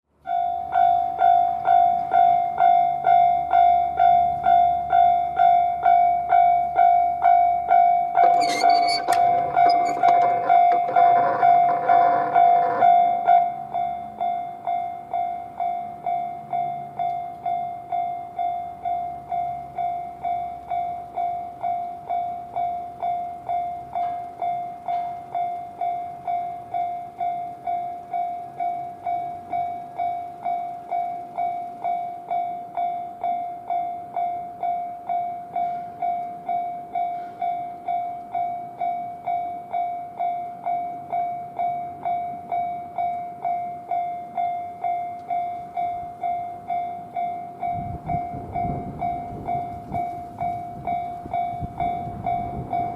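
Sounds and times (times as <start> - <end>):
level-crossing warning bell: 0.1 - 52.9.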